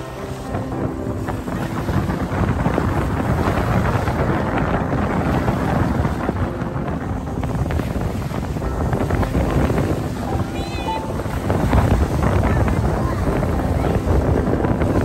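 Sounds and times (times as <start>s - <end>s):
small waves breaking on shore: 0.0s - 15.0s
wind buffeting microphone: 0.0s - 15.0s.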